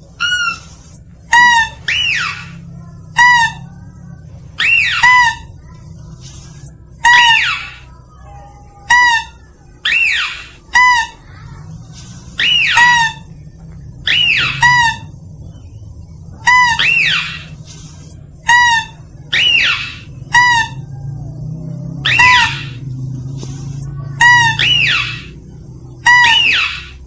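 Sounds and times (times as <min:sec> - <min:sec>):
high squealing lure call: 0:00.0 - 0:27.0.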